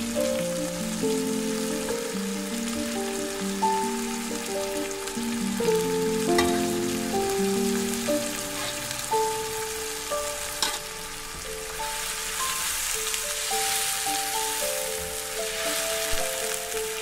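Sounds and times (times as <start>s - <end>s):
background music of held notes: 0.0s - 17.0s
food sizzling in hot oil: 0.0s - 17.0s.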